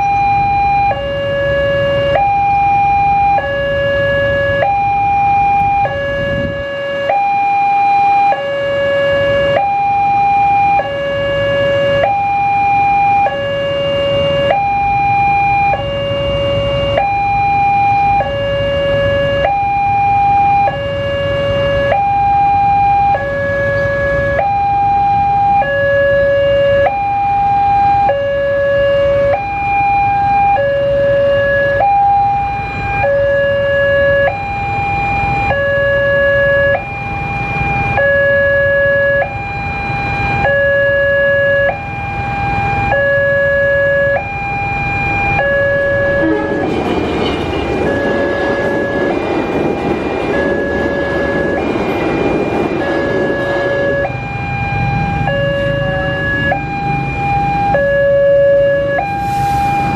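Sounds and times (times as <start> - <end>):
level crossing two-tone alarm: 0.0 - 59.9.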